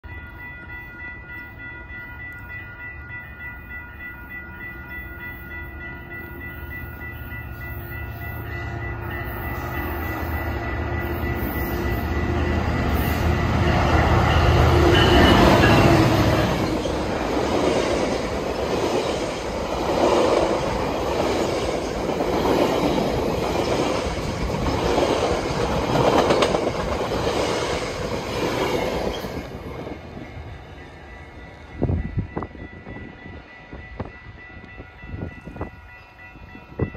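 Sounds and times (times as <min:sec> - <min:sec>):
diesel locomotive engine rumble: 0:00.1 - 0:36.9.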